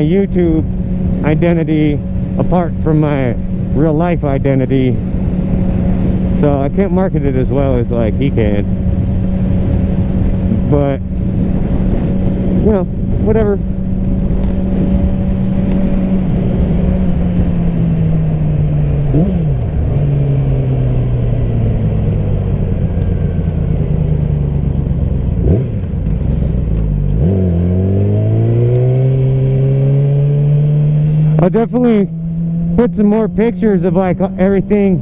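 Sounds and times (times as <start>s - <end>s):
motorcycle engine: 0.0s - 35.0s.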